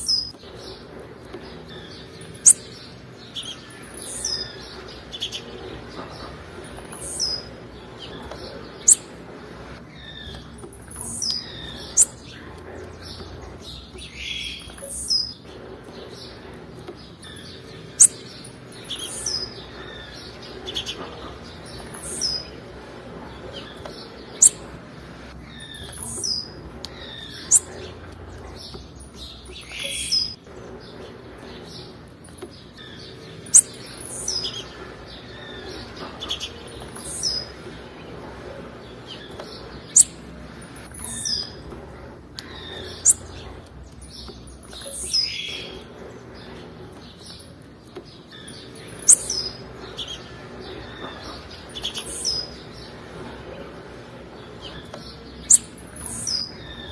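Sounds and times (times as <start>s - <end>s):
bird high downward chirps: 0.0s - 56.9s.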